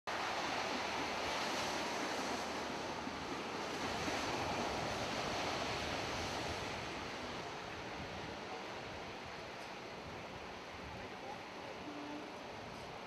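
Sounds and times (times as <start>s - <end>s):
steady street rushing noise: 0.1s - 13.0s.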